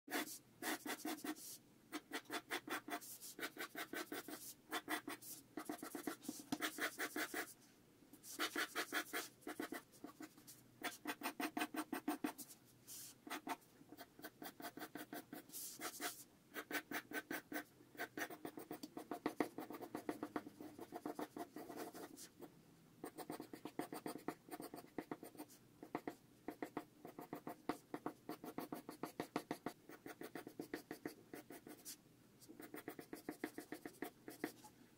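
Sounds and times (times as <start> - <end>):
pencil sketching on paper: 0.1 - 7.6, 8.3 - 22.4, 23.0 - 32.0, 32.6 - 34.6.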